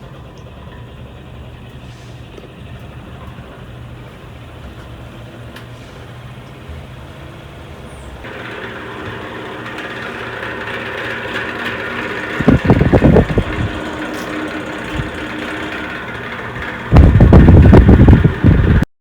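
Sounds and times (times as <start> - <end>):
electric fan humming: 0.0 - 18.9.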